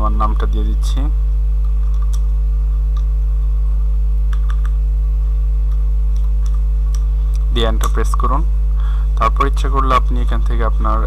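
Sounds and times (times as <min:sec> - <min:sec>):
loud electrical hum: 0:00.0 - 0:11.0.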